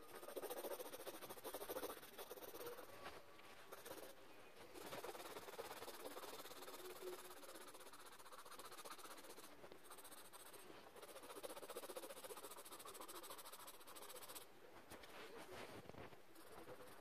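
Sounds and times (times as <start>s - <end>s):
pencil scratching on paper: 0.0s - 3.0s, 3.6s - 14.5s, 16.3s - 17.0s.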